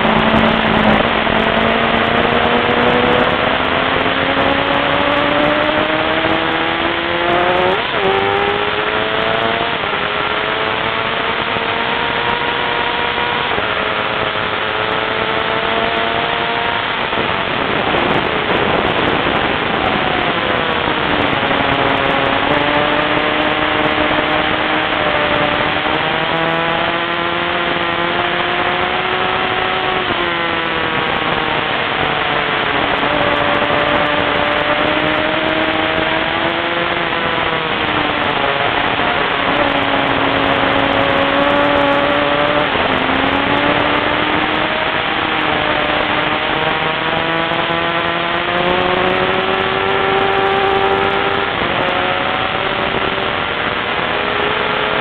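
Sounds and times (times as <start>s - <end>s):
race car engine shifting gears: 0.0s - 55.0s
road and wind noise: 0.0s - 55.0s.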